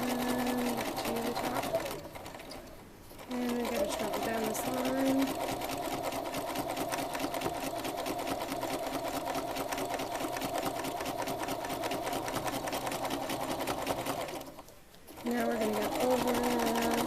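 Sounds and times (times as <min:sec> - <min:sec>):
sewing machine stitching: 0:00.0 - 0:17.0.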